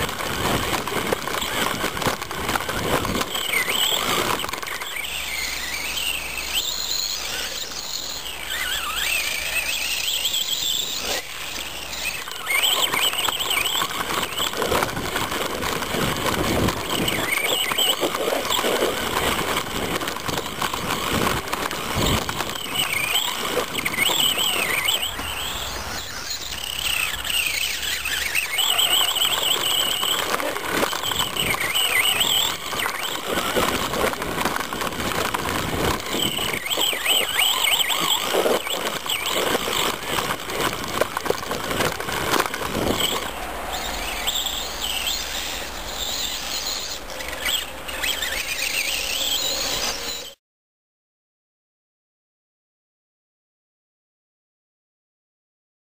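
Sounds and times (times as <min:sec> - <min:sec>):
tires churning through snow: 0:00.0 - 0:50.4.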